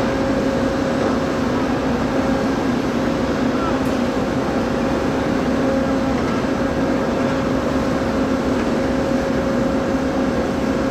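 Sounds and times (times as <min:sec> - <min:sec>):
engine humming steadily: 0:00.0 - 0:10.9.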